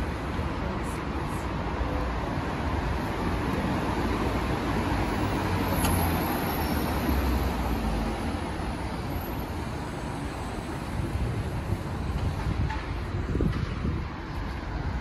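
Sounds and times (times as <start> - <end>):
traffic passing: 0.0 - 15.0.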